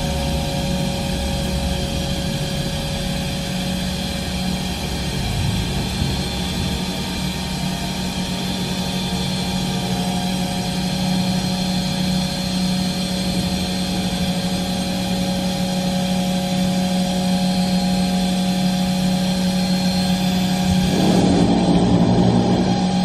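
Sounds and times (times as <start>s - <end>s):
industrial machine humming: 0.0s - 23.0s.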